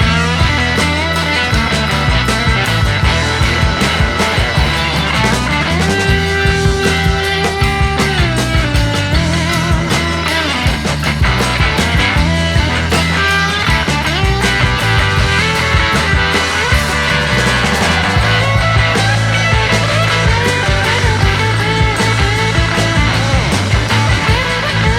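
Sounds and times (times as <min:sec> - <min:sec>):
bending guitar lead: 0:00.0 - 0:24.9
rock music: 0:00.0 - 0:24.9.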